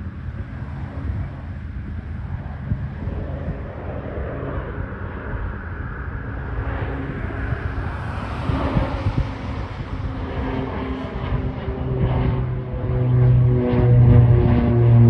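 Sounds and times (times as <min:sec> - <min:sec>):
turboprop plane climbing: 0:00.0 - 0:15.0
wind rumbling on microphone: 0:00.0 - 0:15.0.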